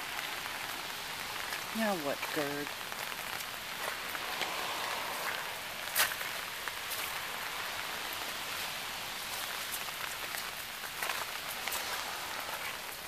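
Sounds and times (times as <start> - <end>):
rain on wet pavement: 0.0 - 13.0.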